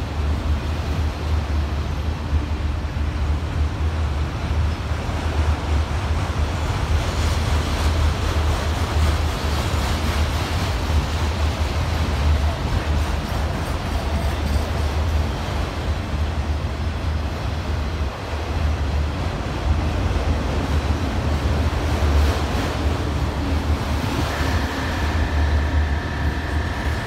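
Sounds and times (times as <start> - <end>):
freight train rolling on rails: 0.0 - 27.0.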